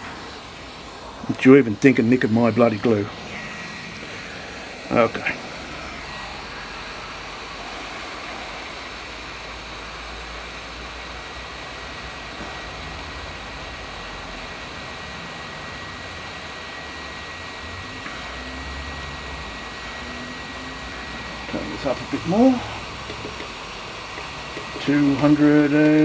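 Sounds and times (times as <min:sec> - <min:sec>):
hot air gun fan hissing: 0:00.0 - 0:26.0.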